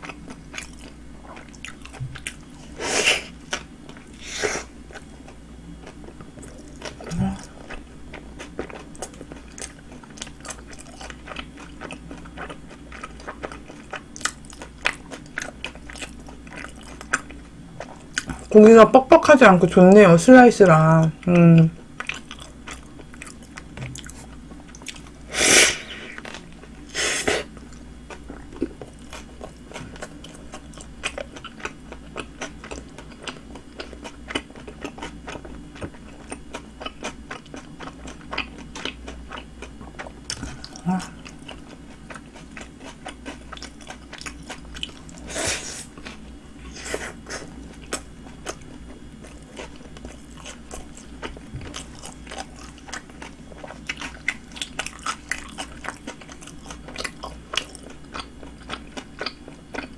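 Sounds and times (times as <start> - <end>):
chewing and biting sandwich: 3.3 - 18.5, 22.0 - 59.9.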